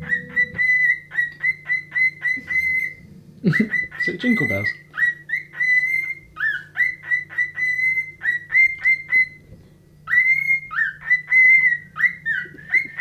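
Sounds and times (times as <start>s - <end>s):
cockatiel whistling a tune: 0.0s - 13.0s.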